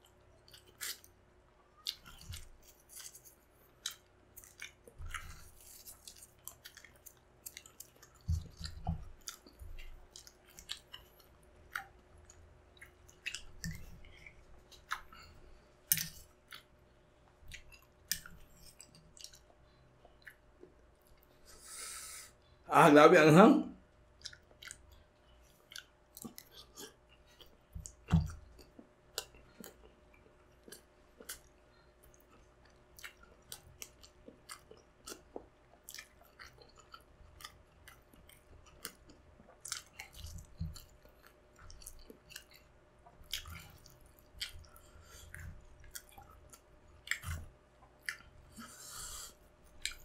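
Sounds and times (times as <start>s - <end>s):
wet chewing clicks and smacks: 0.0s - 1.2s, 1.8s - 21.3s, 24.1s - 48.7s, 49.6s - 50.0s.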